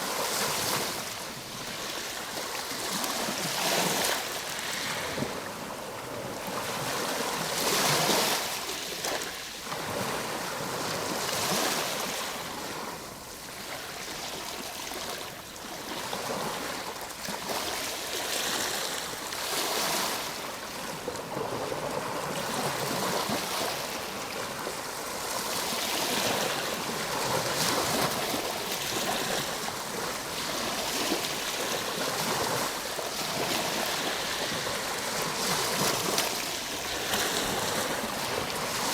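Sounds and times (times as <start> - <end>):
ocean waves washing on shore: 0.0 - 38.9.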